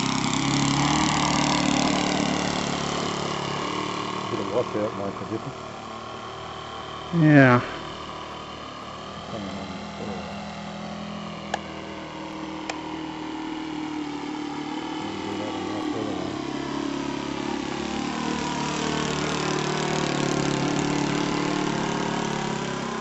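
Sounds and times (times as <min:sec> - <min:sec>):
model plane engine in flight: 0:00.0 - 0:23.0.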